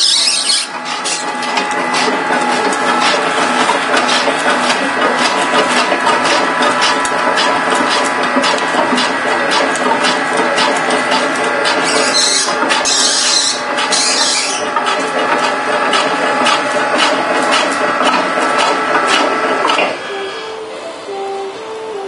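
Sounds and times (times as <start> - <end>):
slicing machine whirring: 0.0 - 22.0
machine clicks: 0.2 - 20.0.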